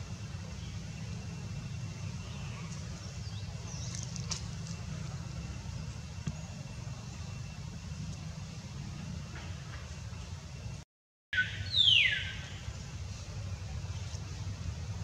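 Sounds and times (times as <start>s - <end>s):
low outdoor rumble: 0.0s - 10.8s, 11.4s - 15.0s.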